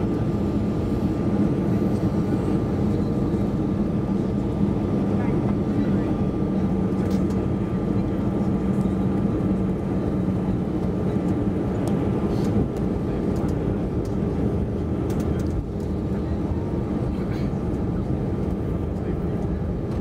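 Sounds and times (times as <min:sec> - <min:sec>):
jet engine drone: 0:00.0 - 0:20.0.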